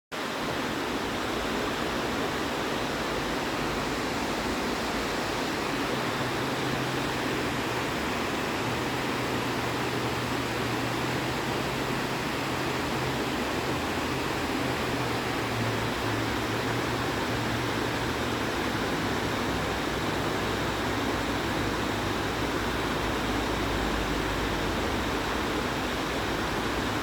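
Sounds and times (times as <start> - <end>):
flowing water rushing: 0.1 - 27.0.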